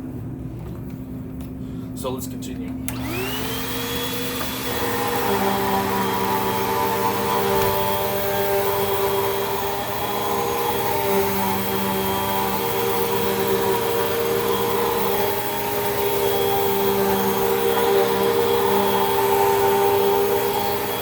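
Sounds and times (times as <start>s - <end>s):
upright vacuum cleaner running: 2.9s - 21.0s.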